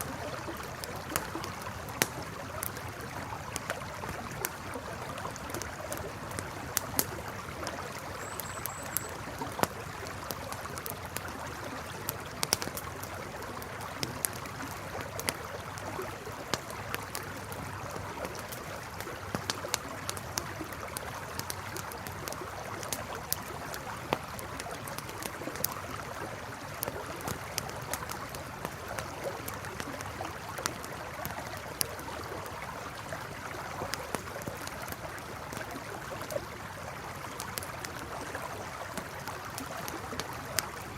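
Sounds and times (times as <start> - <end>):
campfire crackling and popping: 0.0 - 40.9
river flowing: 0.0 - 40.9.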